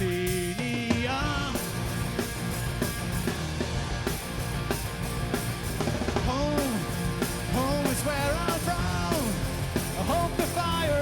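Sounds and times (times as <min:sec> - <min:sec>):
bass guitar: 0:00.0 - 0:11.0
drum kit beat: 0:00.0 - 0:11.0
electric guitars: 0:01.1 - 0:11.0.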